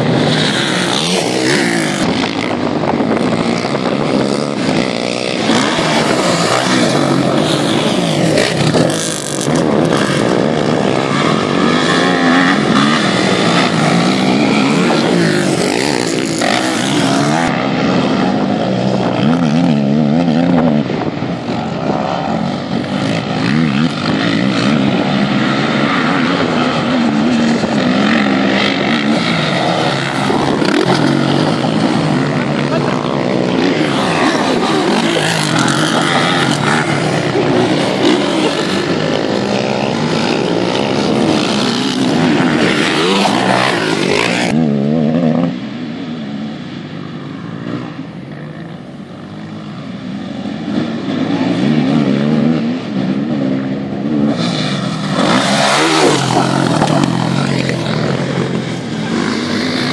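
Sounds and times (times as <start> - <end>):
quad bike engines revving: 0.0 - 59.9.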